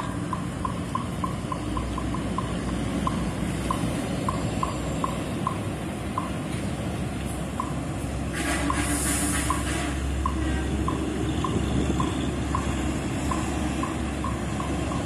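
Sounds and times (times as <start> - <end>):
coach diesel engine running: 0.0 - 15.0
street traffic noise: 0.0 - 15.0.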